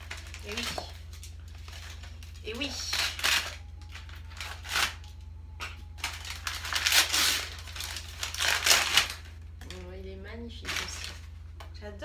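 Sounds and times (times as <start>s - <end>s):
paper rustling and crinkling: 0.0s - 5.2s, 5.9s - 9.9s, 10.6s - 11.4s.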